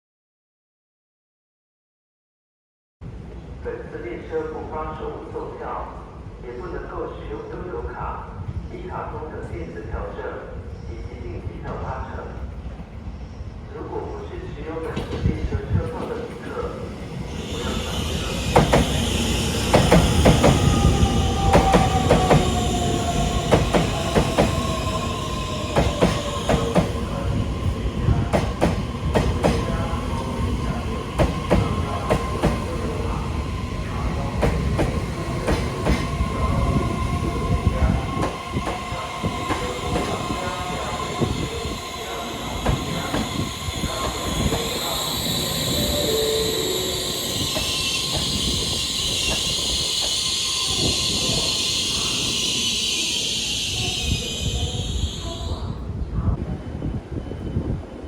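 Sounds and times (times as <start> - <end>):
train rumbling on rails: 7.8 - 58.0.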